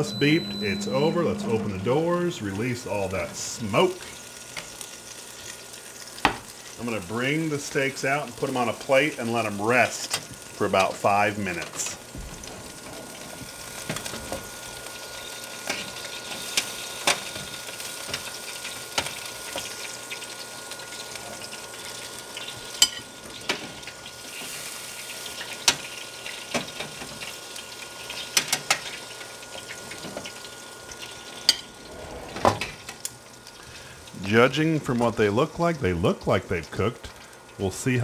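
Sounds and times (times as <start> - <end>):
steaks sizzling: 0.0 - 38.0.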